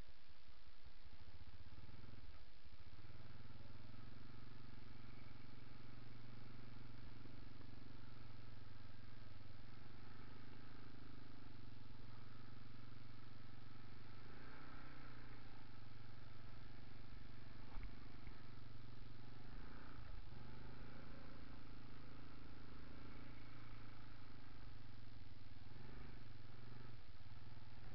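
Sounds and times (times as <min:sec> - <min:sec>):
atv engine humming: 0:00.0 - 0:27.9.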